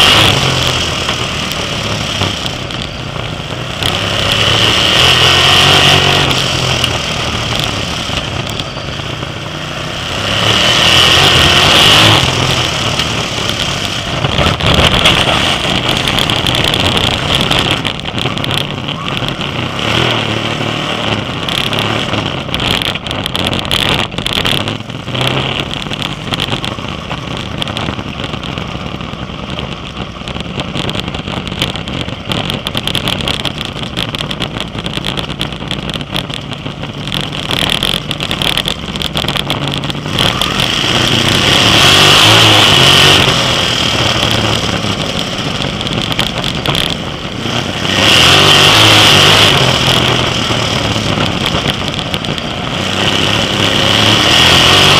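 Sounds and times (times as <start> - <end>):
sprint car engines running: 0.0 - 54.9.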